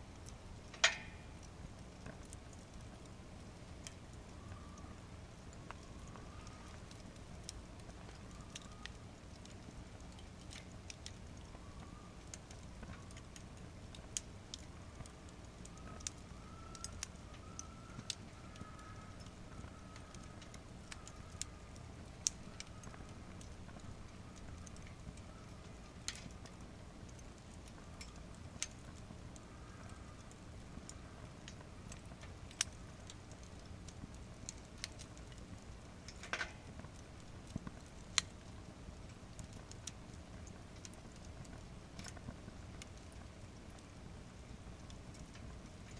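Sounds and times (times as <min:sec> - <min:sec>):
fire popping and snapping: 0:00.0 - 0:45.9
wood fire crackling: 0:00.0 - 0:45.9.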